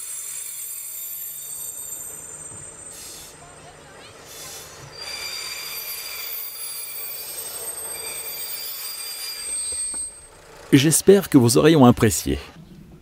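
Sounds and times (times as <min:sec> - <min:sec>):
railcar brakes squealing: 0:00.0 - 0:10.8.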